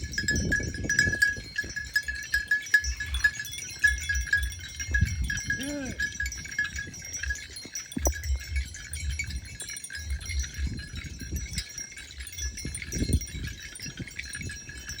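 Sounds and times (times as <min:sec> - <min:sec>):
cow bells ringing: 0:00.0 - 0:15.0.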